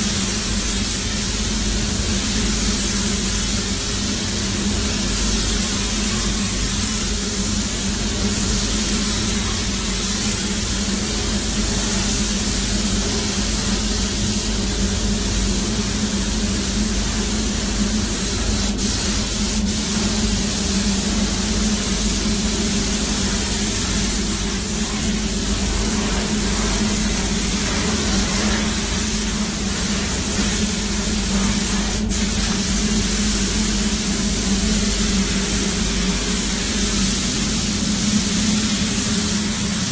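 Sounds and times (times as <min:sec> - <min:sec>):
steady low hum: 0:01.1 - 0:39.9
paint spray gun hissing: 0:02.2 - 0:39.9.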